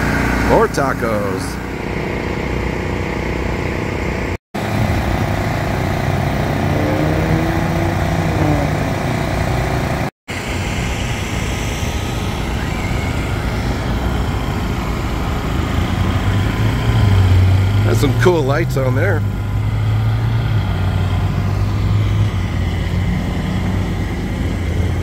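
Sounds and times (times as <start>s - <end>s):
generators engine drone: 0.0s - 25.0s.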